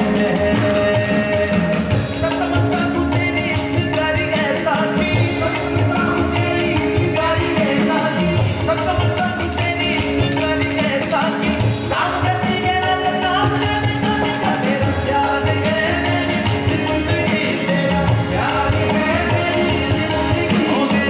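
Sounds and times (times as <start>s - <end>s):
harmonium: 0.0s - 21.0s
man singing: 0.0s - 21.0s
tabla drumming: 0.0s - 21.0s.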